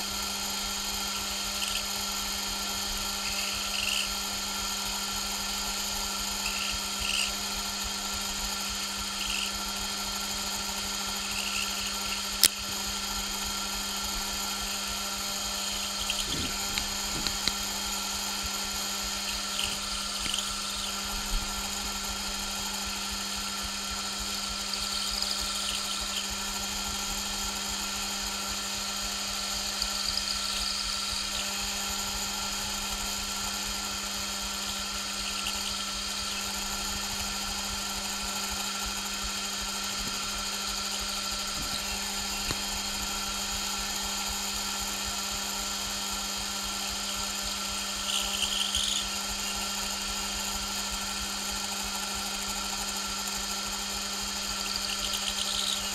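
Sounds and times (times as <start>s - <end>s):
metal lathe humming: 0.0s - 55.9s.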